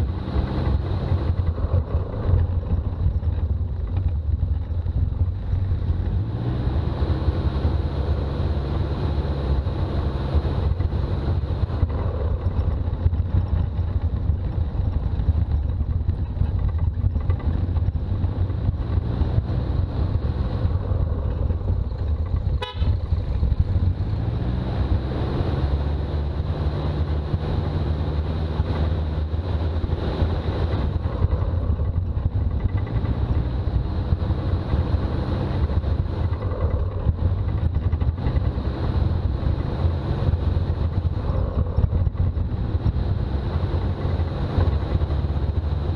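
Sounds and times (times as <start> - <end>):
car engine accelerating: 0.0 - 45.9
road noise: 0.0 - 45.9.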